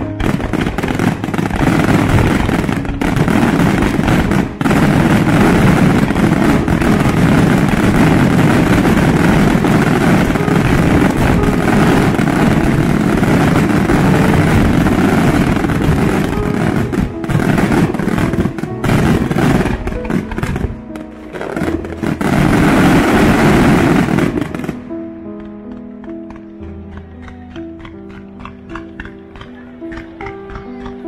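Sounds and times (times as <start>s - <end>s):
fireworks bursting and crackling: 0.0s - 31.0s.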